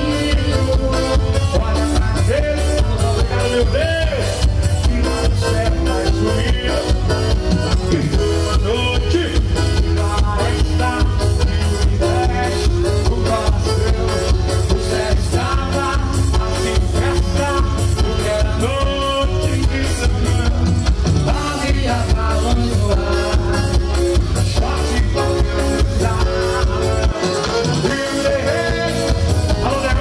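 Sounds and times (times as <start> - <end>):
live band playing: 0.0 - 30.0
person singing: 0.0 - 30.0.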